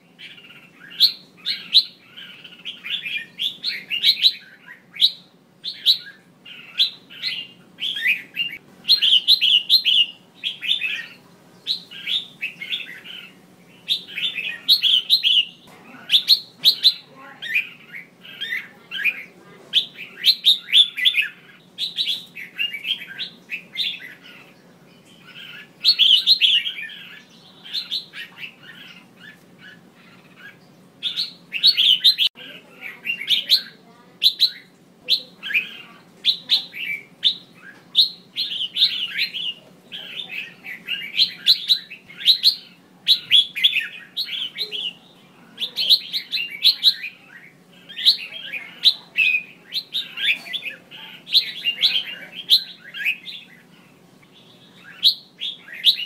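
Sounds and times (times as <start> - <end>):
bird chirping and warbling: 0.0 - 56.0
faint steady hum: 0.0 - 56.0.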